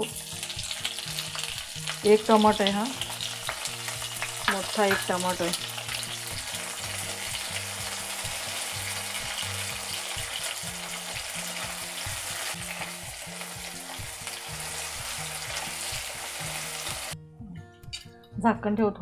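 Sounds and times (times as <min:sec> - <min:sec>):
vegetables sizzling in hot oil: 0:00.0 - 0:17.2.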